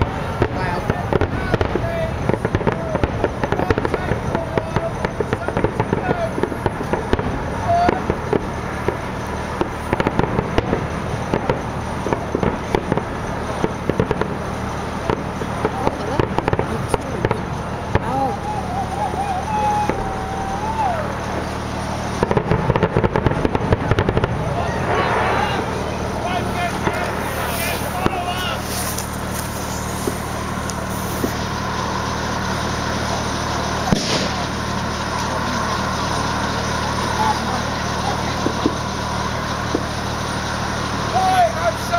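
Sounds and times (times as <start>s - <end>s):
fireworks bangs and crackles: 0.0s - 41.9s
low outdoor rumble: 0.0s - 41.9s.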